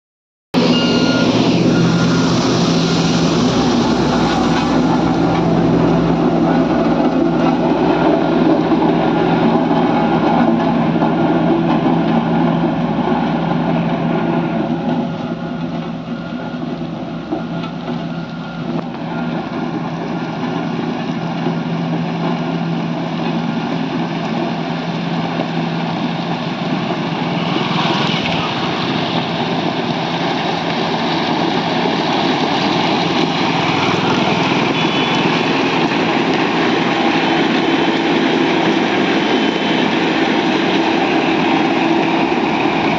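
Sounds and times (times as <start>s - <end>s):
heavy machinery engines running: 0.6s - 42.9s.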